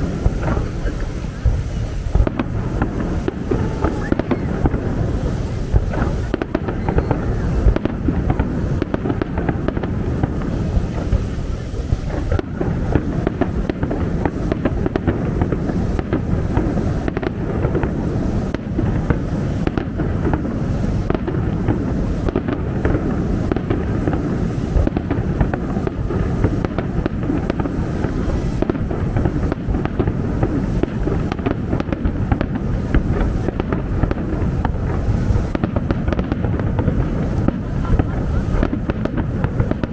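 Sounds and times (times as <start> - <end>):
fireworks bursting: 0.0 - 39.9
steady low rumble: 0.0 - 39.9.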